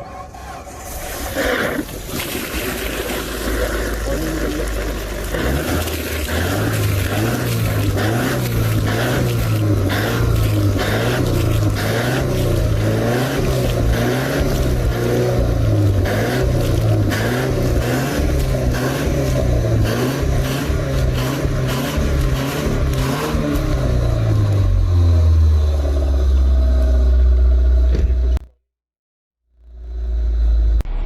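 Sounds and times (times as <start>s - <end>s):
car engine revving: 3.3s - 28.5s.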